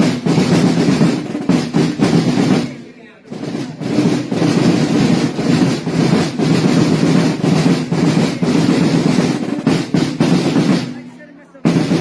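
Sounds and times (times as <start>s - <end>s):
snare drums rolling: 0.0s - 12.0s.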